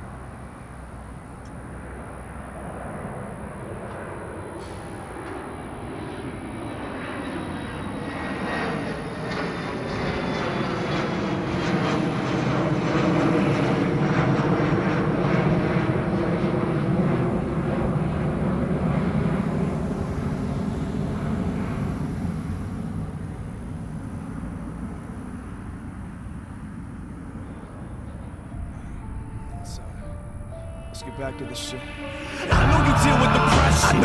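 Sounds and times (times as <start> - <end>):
jet airliner passing: 0.0 - 34.0.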